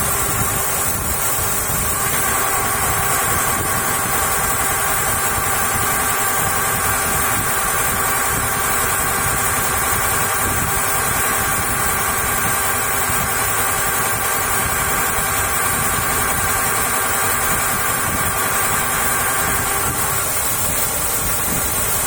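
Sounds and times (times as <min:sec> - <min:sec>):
engine running: 0:00.0 - 0:22.0
gearbox whine: 0:00.0 - 0:22.0.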